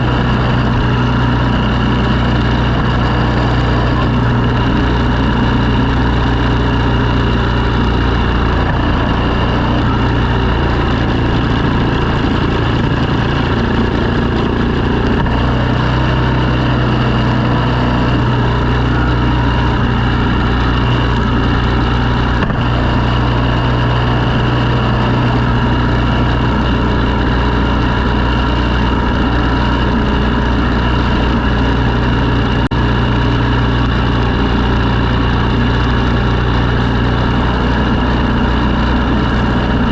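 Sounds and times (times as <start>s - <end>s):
engine running loudly: 0.0s - 39.9s.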